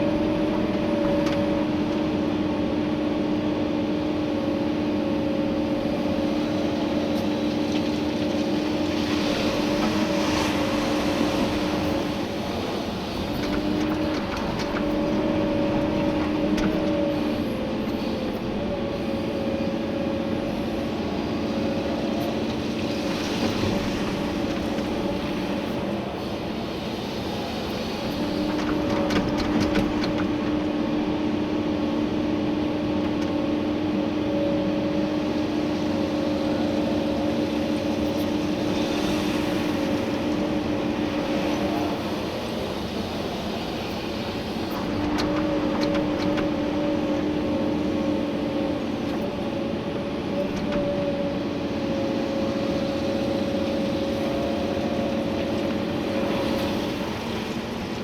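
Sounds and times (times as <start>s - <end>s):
excavator engine and hydraulics humming: 0.0s - 58.0s.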